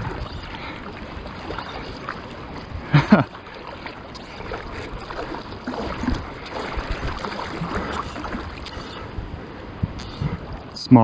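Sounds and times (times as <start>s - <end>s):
small water splashes: 0.0s - 9.2s
seawater lapping at shore: 0.0s - 11.0s.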